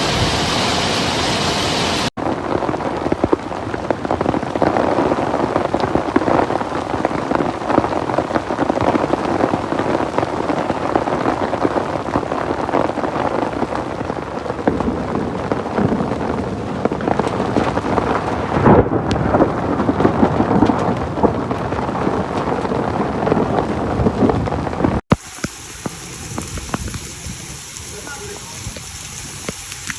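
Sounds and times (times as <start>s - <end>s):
heavy rain and hail: 0.0s - 29.9s.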